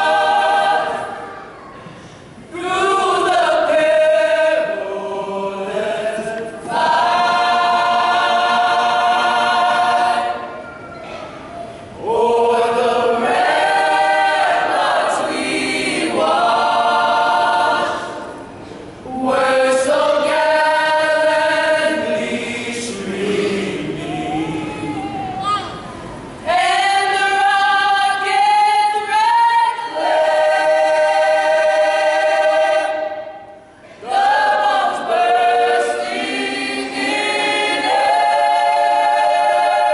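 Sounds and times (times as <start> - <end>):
choir singing a cappella: 0.0 - 1.5, 2.4 - 10.7, 11.8 - 25.4, 26.2 - 39.9.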